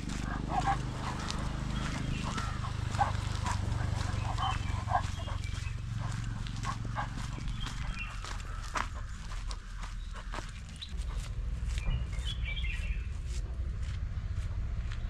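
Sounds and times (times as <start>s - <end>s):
crunching footsteps: 0.0s - 15.0s
steady low rumble: 0.0s - 15.0s
bird chirps: 0.8s - 13.1s.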